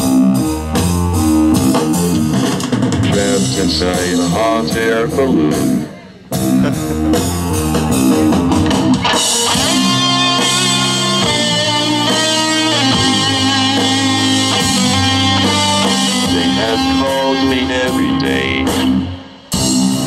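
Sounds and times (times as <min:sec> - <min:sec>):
rock band playing instrumental: 0:00.0 - 0:20.0.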